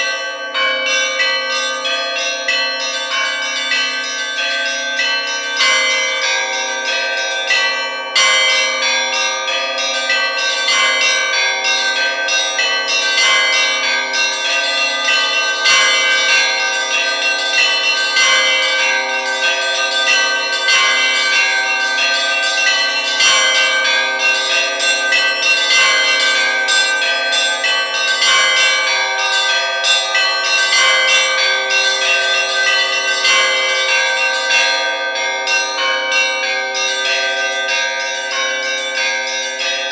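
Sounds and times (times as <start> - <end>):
large bells ringing: 0.0 - 39.9.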